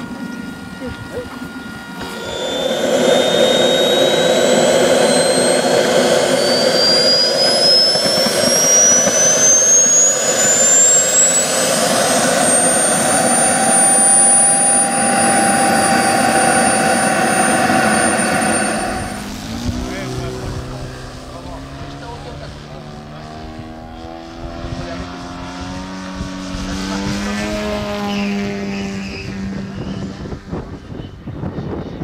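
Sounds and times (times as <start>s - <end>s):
constant rushing noise: 0.0s - 32.0s
turbine engine whine: 0.0s - 32.0s.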